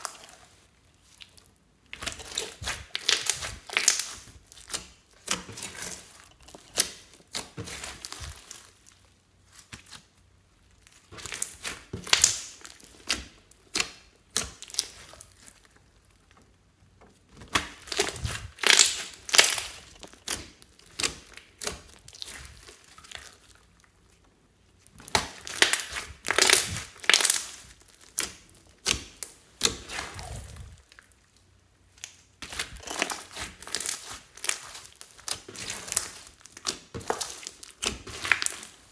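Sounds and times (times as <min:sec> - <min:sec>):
slime crackling and popping: 0:01.2 - 0:16.5, 0:17.3 - 0:38.9.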